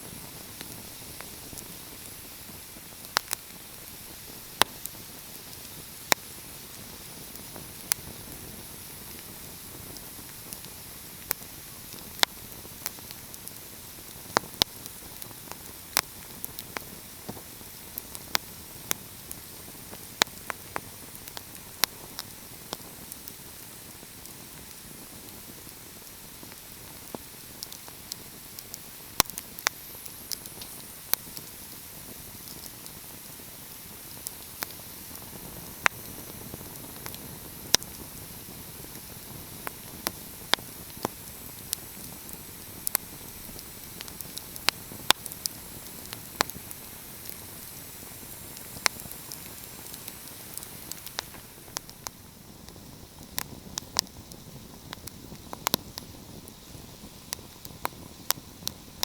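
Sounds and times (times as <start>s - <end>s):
fire crackling and popping: 0.0s - 59.0s
soft hiss: 0.0s - 59.0s.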